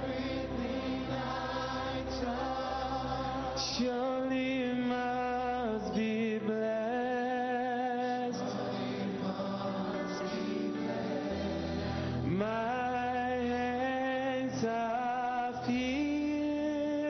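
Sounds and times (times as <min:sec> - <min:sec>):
gospel singing: 0:00.0 - 0:17.0.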